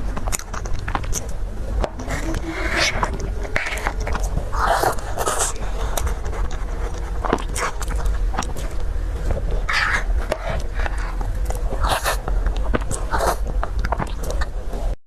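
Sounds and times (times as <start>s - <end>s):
chewing and biting: 0.0s - 14.8s
steady low hum: 0.0s - 15.0s.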